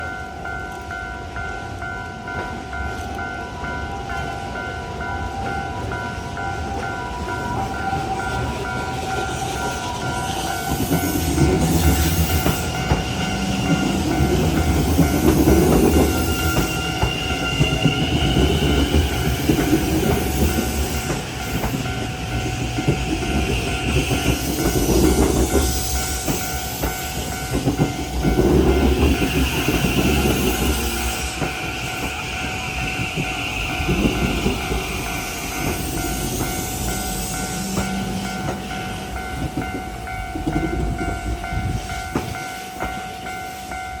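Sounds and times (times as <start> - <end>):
crossing warning bells ringing: 0.0 - 44.0
train wheels clattering on rails: 0.0 - 44.0.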